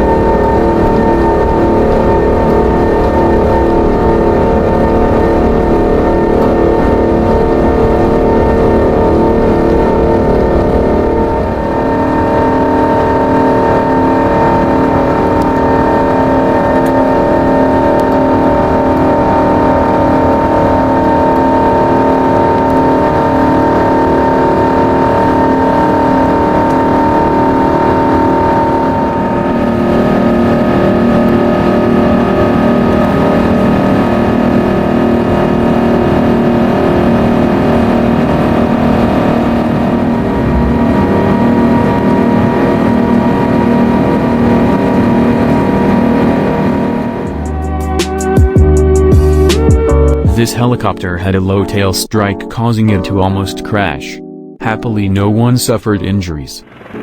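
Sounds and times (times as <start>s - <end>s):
jet engines roaring: 0.0s - 48.4s
steady whining tones: 0.0s - 50.2s.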